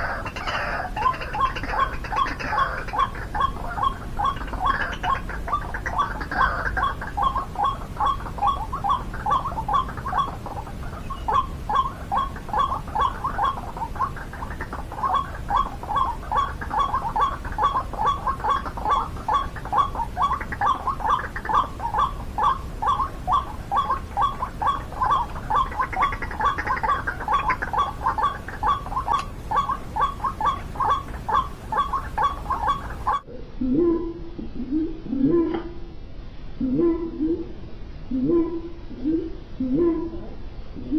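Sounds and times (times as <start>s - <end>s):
waterhen calling: 0.0s - 35.7s.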